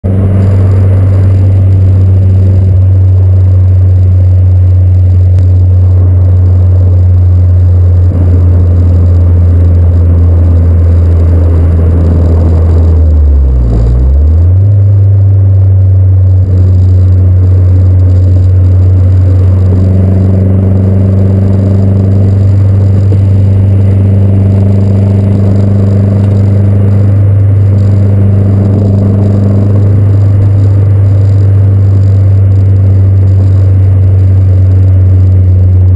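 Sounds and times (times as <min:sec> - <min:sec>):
car exhaust droning: 0:00.0 - 0:35.9.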